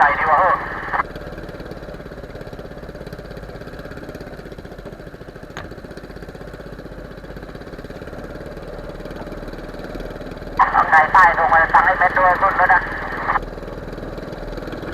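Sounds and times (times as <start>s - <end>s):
boat engine running: 0.0s - 14.9s.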